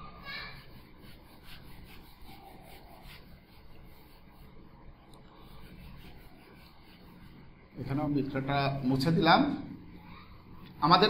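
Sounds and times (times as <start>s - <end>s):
eraser rubbing on whiteboard: 0.2s - 9.2s.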